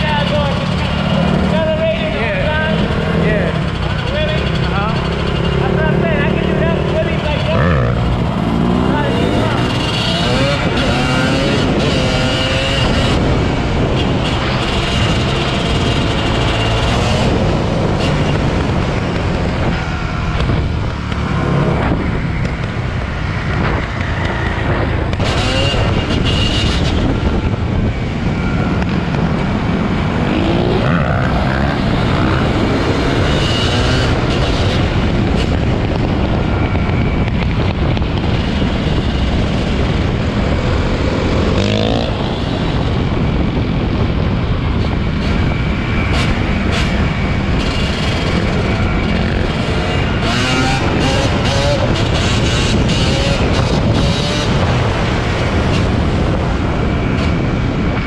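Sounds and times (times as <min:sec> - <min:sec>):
dirt bike engines revving: 0:00.0 - 0:58.0
steady rushing noise: 0:00.0 - 0:58.0.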